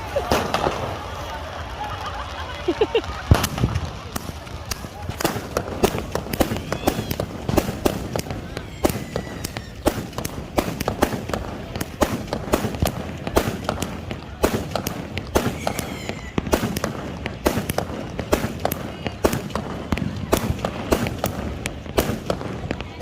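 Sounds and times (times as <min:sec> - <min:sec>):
firecrackers banging: 0:00.0 - 0:23.0.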